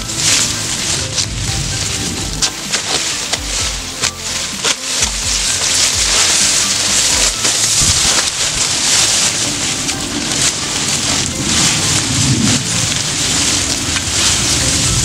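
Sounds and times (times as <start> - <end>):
dry grass rustling and snapping: 0.0 - 15.0.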